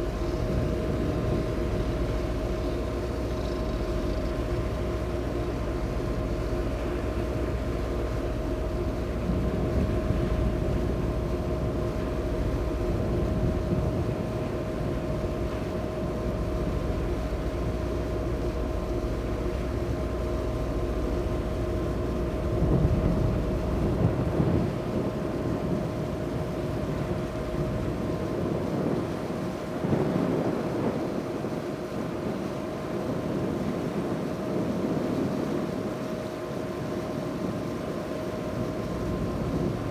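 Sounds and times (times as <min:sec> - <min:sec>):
ferry engine drone: 0:00.0 - 0:39.9
rush of wind and water: 0:00.0 - 0:39.9.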